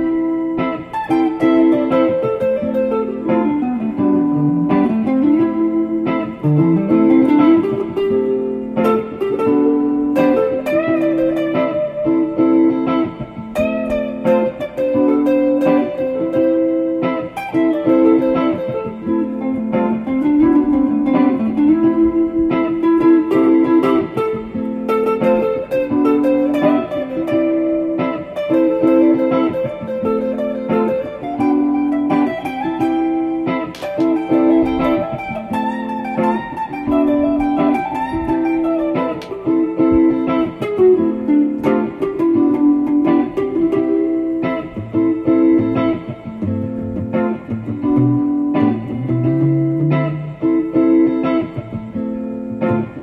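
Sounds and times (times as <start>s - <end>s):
plucked guitar pattern: 0.0s - 53.0s.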